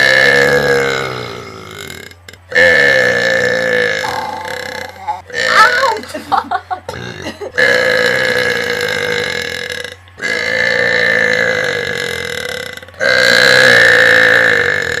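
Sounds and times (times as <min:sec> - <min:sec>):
long drawn-out burps: 0:00.0 - 0:06.1, 0:06.8 - 0:15.0.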